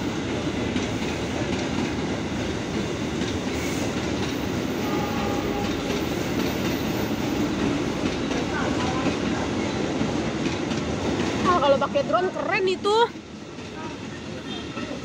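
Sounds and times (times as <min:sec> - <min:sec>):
train wheels rumbling and clattering: 0:00.0 - 0:15.0.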